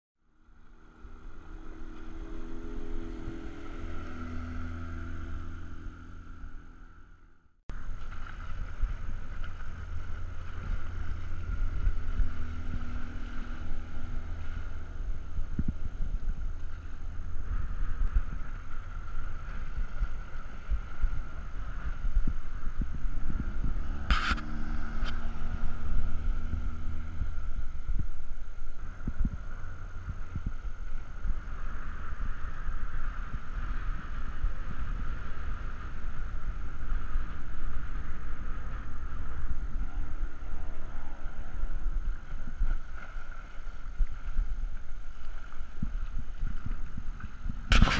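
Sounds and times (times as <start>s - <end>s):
outboard motor on passing boat: 0.2s - 47.9s
heavy low rumble: 0.3s - 47.9s.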